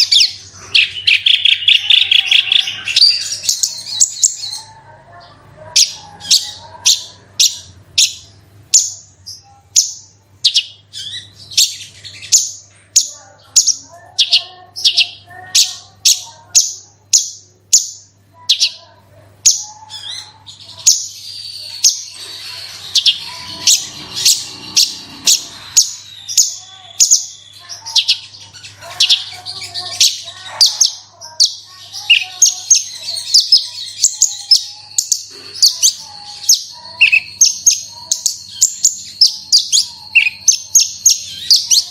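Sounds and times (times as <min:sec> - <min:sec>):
lark singing: 0:00.0 - 0:41.9.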